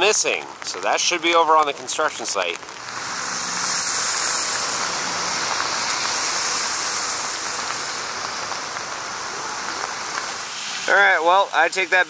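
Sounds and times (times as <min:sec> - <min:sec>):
steady rushing hiss: 0:00.0 - 0:12.0.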